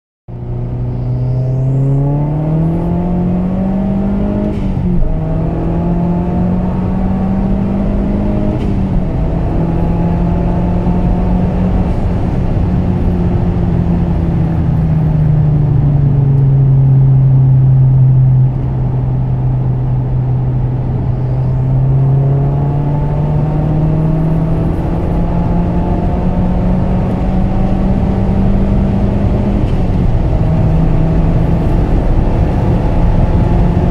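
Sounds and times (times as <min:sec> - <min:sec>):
car engine revving: 0:00.3 - 0:33.9.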